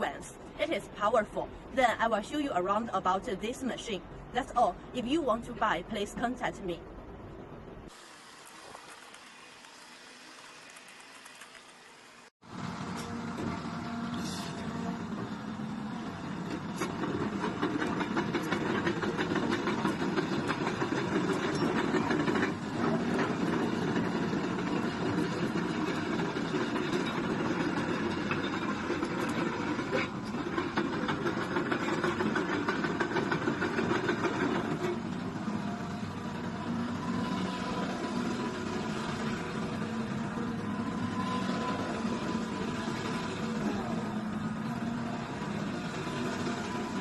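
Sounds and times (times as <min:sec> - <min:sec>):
diesel excavator engine running: 0:09.0 - 0:47.0.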